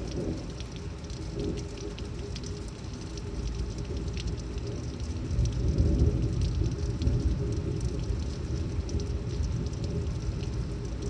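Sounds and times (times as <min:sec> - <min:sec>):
low thunder rumble: 0:00.0 - 0:02.6, 0:03.6 - 0:11.0
raindrop ticks: 0:00.0 - 0:11.0
torrential rain pouring: 0:00.0 - 0:11.0.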